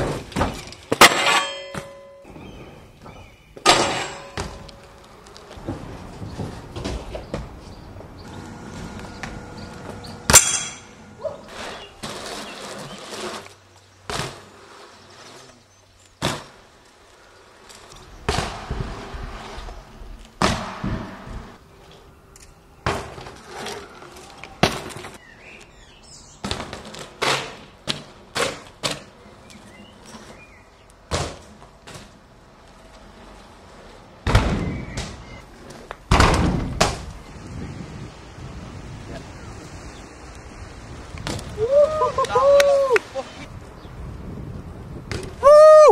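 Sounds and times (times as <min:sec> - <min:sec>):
bikes landing on concrete: 0:00.0 - 0:21.6, 0:22.8 - 0:25.2, 0:26.3 - 0:37.8, 0:40.4 - 0:43.6, 0:44.2 - 0:45.9.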